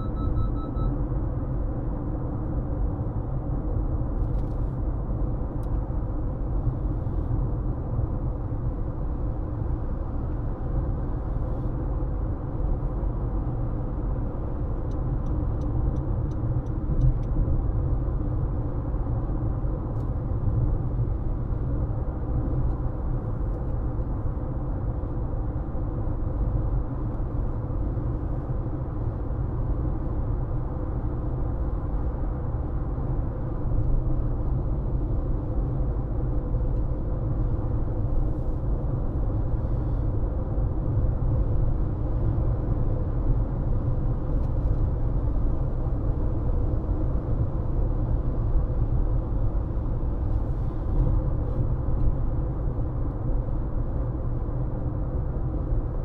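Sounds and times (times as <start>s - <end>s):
road and tyre rumble: 0.0s - 56.0s.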